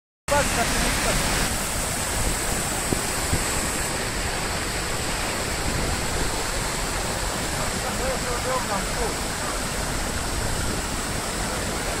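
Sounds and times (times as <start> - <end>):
floodwater rushing over a drop: 0.3 - 12.0.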